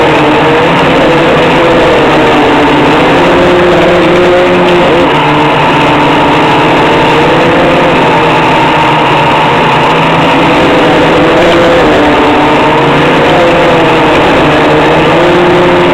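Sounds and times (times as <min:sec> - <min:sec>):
quadcopter motors buzzing whine: 0:00.0 - 0:15.9.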